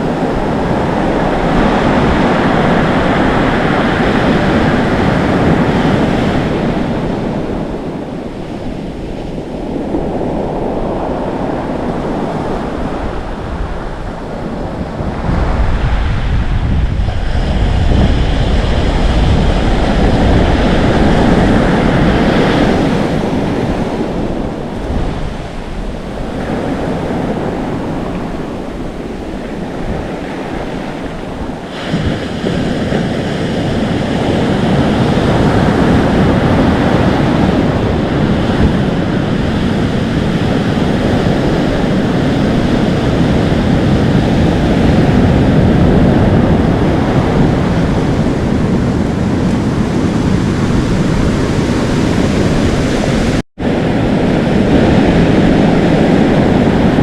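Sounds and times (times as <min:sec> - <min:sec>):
ocean waves on shore: 0:00.0 - 0:57.0
wind on microphone: 0:00.0 - 0:57.0.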